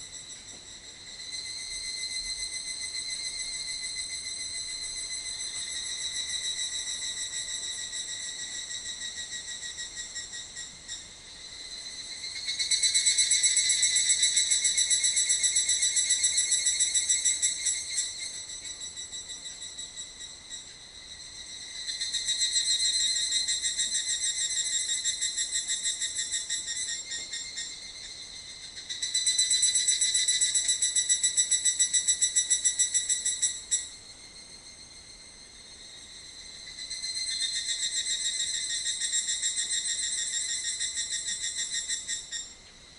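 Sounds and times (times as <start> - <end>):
insect high pulsing chirr: 0.0 - 42.9.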